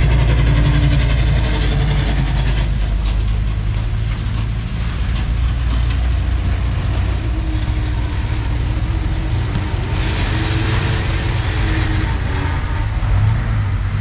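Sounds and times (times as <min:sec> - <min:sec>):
bulldozer diesel engine running: 0:00.0 - 0:14.0
hissing scraping noise: 0:00.4 - 0:14.0.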